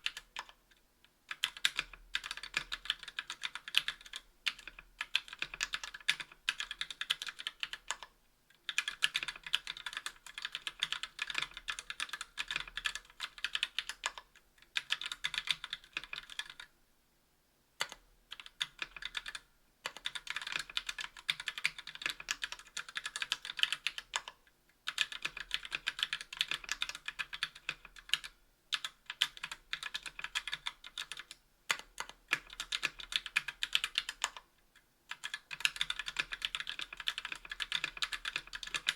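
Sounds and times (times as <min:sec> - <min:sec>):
fast typing on mechanical keyboard: 0:00.0 - 0:00.6, 0:01.3 - 0:08.1, 0:08.7 - 0:16.7, 0:17.8 - 0:34.5, 0:35.1 - 0:38.9.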